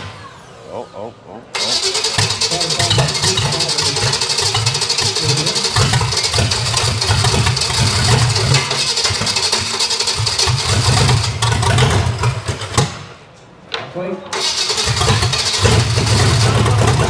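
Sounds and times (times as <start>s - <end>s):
engine running steadily: 0.0s - 13.2s, 14.4s - 17.0s.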